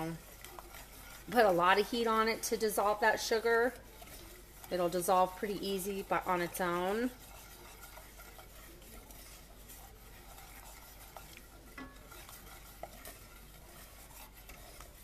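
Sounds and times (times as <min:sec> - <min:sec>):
spoon scraping saucepan: 0:00.0 - 0:15.0.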